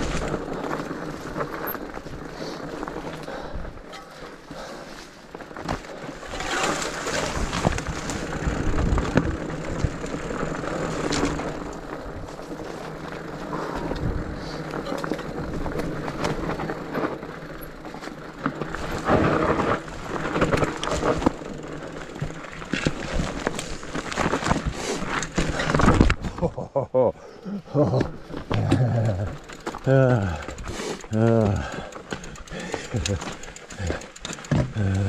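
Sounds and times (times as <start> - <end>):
fat tyres crunching over dirt: 0.0 - 26.8, 27.7 - 35.0
bike frame rattling and knocking: 5.2 - 26.4, 27.8 - 35.0.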